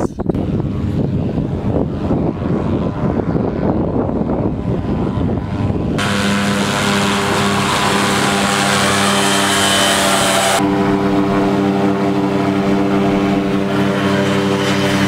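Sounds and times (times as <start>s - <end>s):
wind buffeting: 0.0s - 15.0s
paramotor engine droning: 0.3s - 15.0s.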